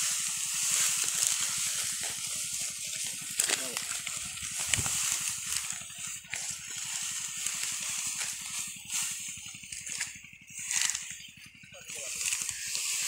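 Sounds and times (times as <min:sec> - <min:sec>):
dry wheat stalks rustling: 0:00.0 - 0:13.0
rapid low pulsing: 0:00.0 - 0:13.0.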